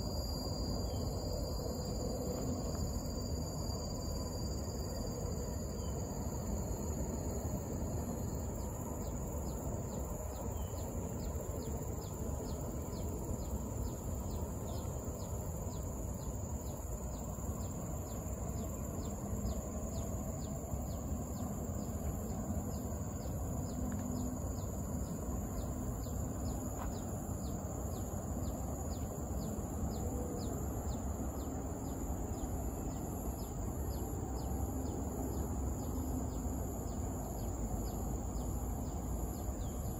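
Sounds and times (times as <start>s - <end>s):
high-pitched insect drone: 0.0s - 39.9s
low background noise: 0.0s - 39.9s.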